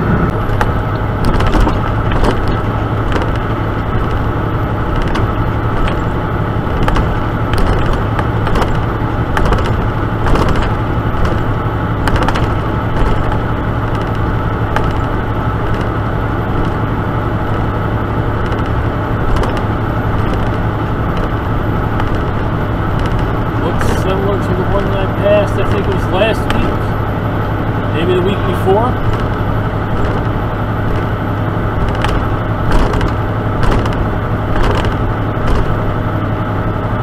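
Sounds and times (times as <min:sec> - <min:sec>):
road noise: 0:00.0 - 0:37.0
truck engine drone: 0:00.0 - 0:37.0
light clicks and rattles: 0:00.5 - 0:27.0, 0:28.2 - 0:35.9.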